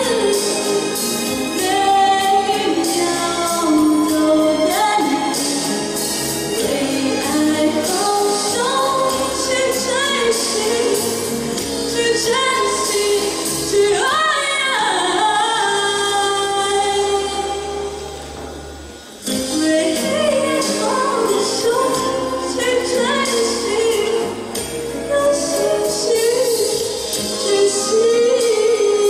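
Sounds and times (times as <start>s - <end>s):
woman singing a ballad: 0.0s - 18.3s, 19.3s - 29.0s.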